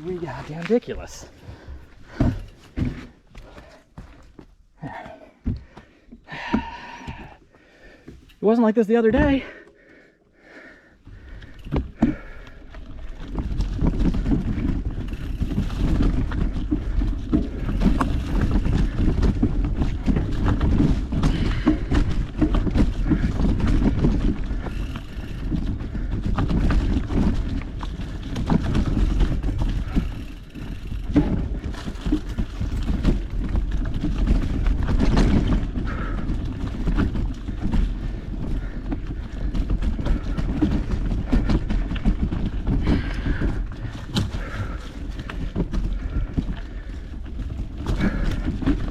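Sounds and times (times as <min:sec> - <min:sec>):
bike rattling and knocking: 0:00.0 - 0:10.0, 0:10.6 - 0:48.9
bike tyre rumble: 0:09.2 - 0:48.9.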